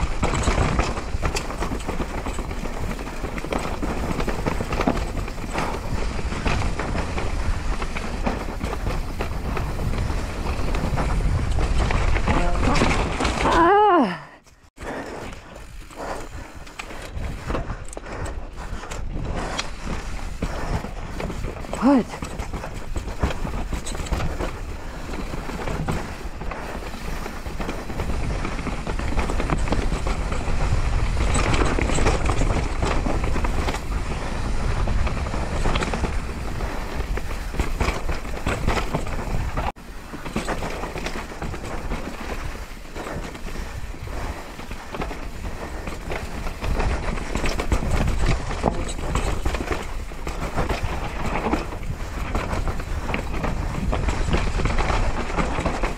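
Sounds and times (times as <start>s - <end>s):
wind rumble on microphone: 0.0s - 13.8s, 15.3s - 55.9s
bike rattling over bumps: 0.0s - 55.9s
bike tyres on dirt and rock: 0.0s - 55.9s.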